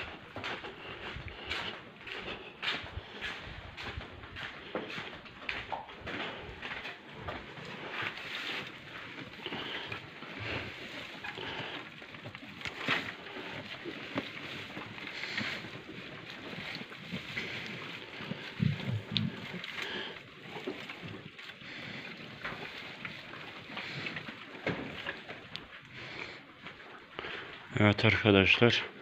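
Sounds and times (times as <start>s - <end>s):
dry hay rustling: 0.0s - 27.2s.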